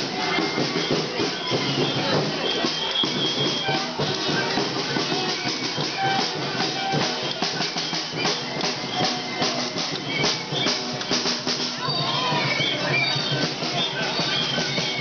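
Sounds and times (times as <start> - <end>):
marching drum beaten: 0.0 - 15.0.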